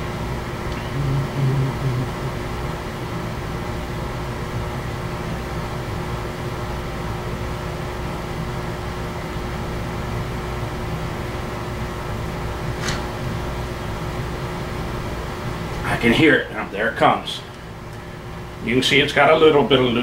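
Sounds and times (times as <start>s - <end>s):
machine hum with hiss: 0.0s - 20.0s.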